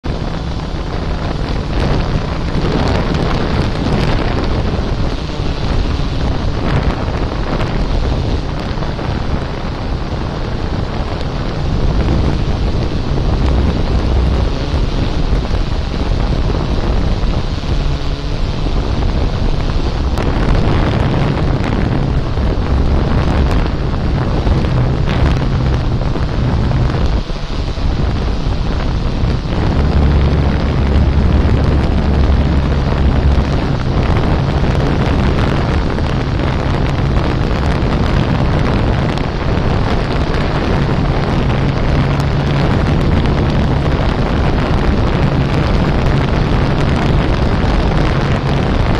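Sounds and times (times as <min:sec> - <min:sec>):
drone propellers humming: 0:00.0 - 0:48.9
wind buffeting microphone: 0:00.0 - 0:48.9.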